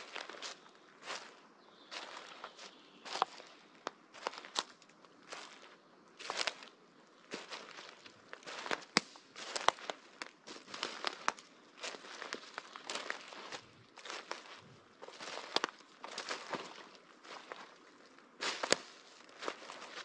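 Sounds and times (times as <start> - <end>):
footsteps crunching dry leaves: 0.0 - 20.0
twigs snapping underfoot: 2.0 - 6.7, 7.3 - 17.8, 18.4 - 20.0.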